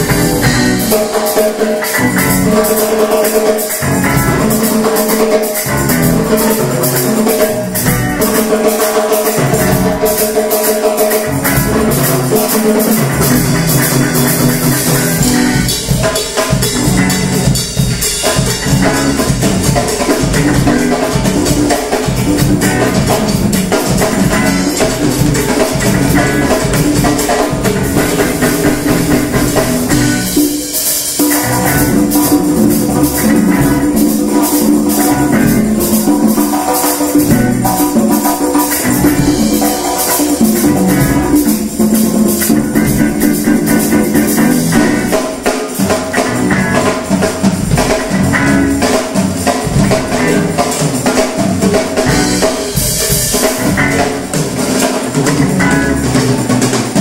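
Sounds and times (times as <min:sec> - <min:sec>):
congas: 0:00.0 - 0:57.0
electric guitar: 0:00.0 - 0:57.0
live band playing funk-pop: 0:00.0 - 0:57.0.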